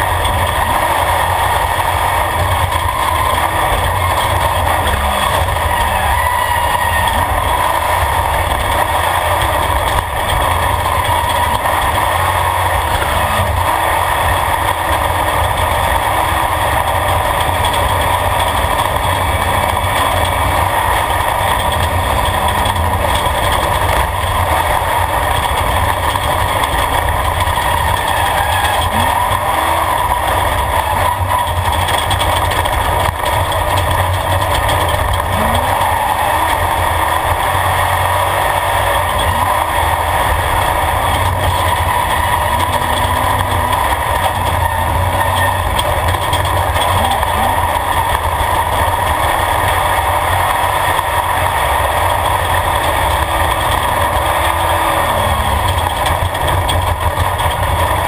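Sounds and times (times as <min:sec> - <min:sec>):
driving over rough dirt track: 0:00.0 - 0:58.0
race vehicle engine running hard: 0:00.0 - 0:58.0.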